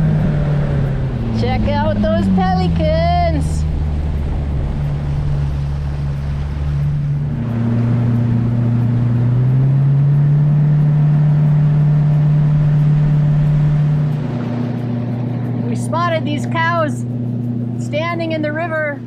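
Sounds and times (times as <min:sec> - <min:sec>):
jet boat motor running: 0:00.0 - 0:19.0.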